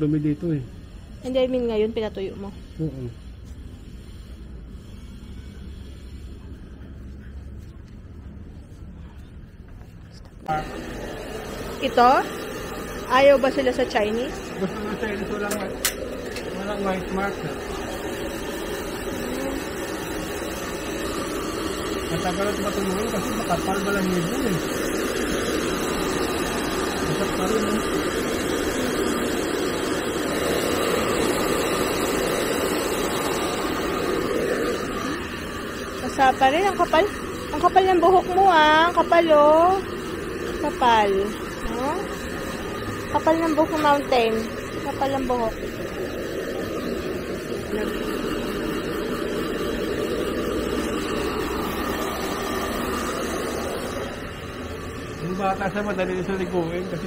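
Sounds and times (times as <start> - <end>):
hair dryer running: 10.4 - 57.0.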